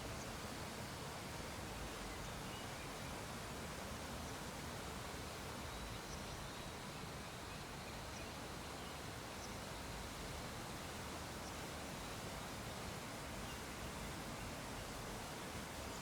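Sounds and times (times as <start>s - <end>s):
low hiss of room tone: 0.0s - 16.0s.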